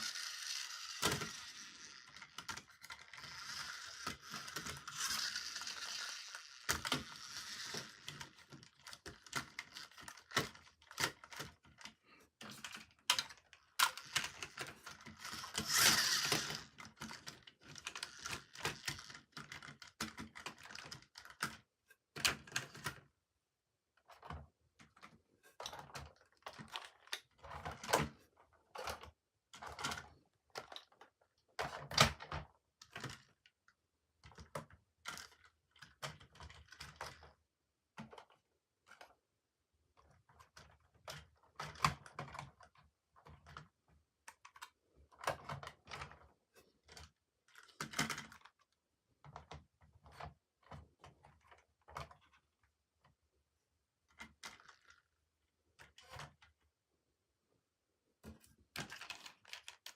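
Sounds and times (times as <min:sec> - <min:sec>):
plastic toys clicking and knocking: 0:00.0 - 0:23.1, 0:24.0 - 0:33.6, 0:34.2 - 0:39.2, 0:39.9 - 0:53.2, 0:54.0 - 0:56.6, 0:58.2 - 0:59.9.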